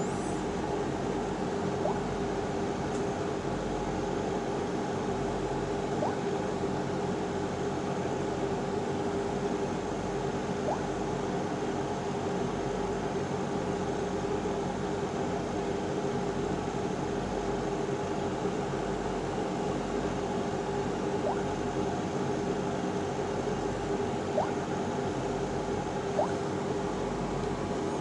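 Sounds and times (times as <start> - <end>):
whirring hum with hiss: 0.0 - 28.0.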